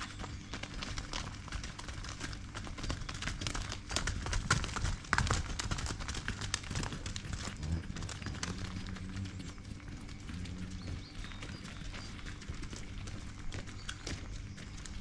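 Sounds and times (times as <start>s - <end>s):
cow hooves clopping on mud: 0.0s - 15.0s.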